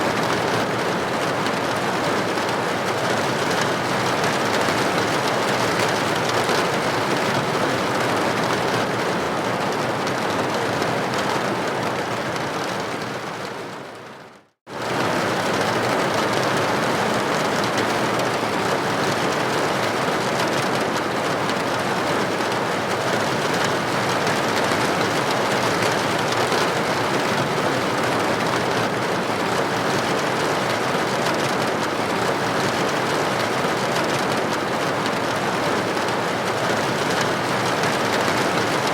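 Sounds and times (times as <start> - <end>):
rain on a window pane: 0.0 - 38.9.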